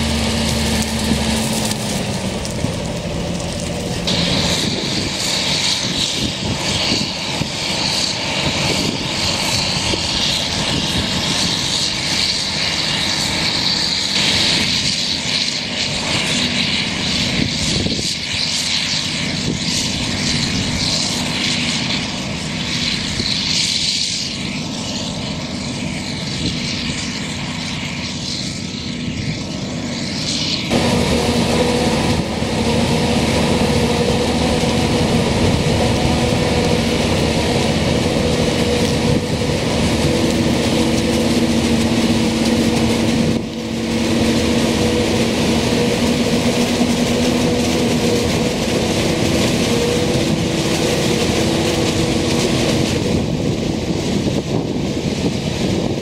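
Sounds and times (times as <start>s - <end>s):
forage harvester drone and hiss: 0.0s - 56.0s
tractor engine hum: 0.0s - 56.0s.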